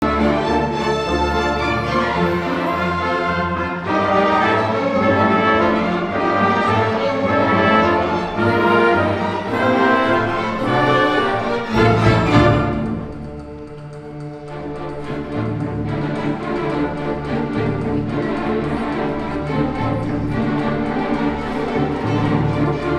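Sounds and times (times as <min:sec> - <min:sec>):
orchestral strings and brass: 0:00.0 - 0:22.9.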